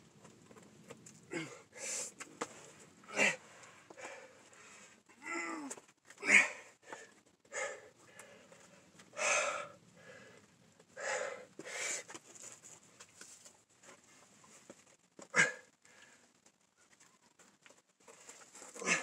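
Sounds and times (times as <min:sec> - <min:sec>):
climber breathing and grunting: 0:00.2 - 0:12.9, 0:13.9 - 0:16.5, 0:18.0 - 0:19.0.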